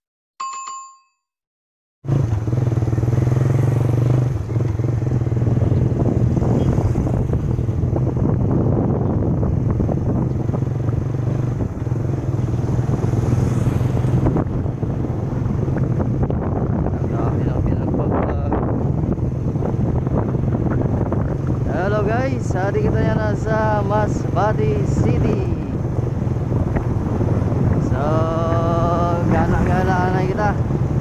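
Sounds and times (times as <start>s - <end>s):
road or wind noise: 2.0s - 31.0s
vehicle engine humming: 2.0s - 31.0s.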